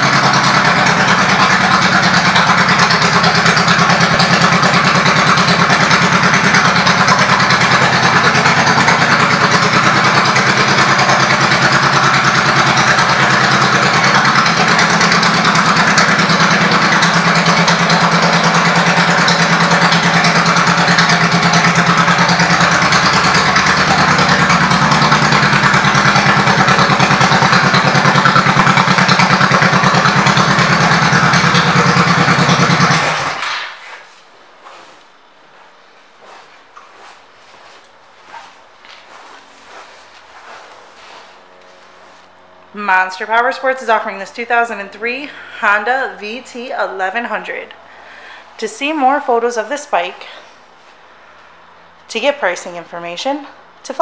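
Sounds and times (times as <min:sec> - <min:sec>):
motorcycle engine idling: 0:00.0 - 0:52.4.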